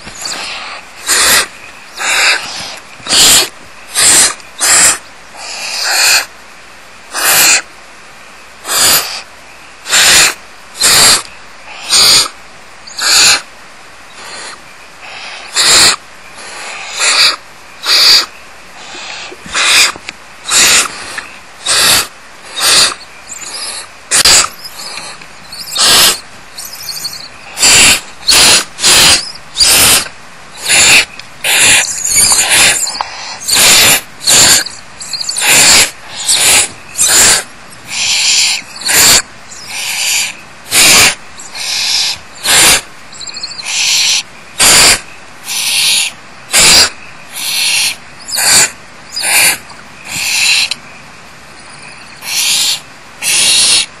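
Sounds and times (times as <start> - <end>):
owlets hissing begging calls: 0.0 - 6.4, 7.1 - 7.8, 8.6 - 50.8, 51.4 - 54.0.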